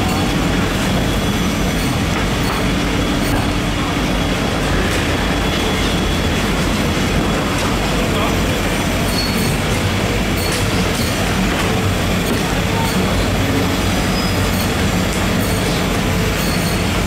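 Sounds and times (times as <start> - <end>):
market crowd rumble: 0.0 - 17.0.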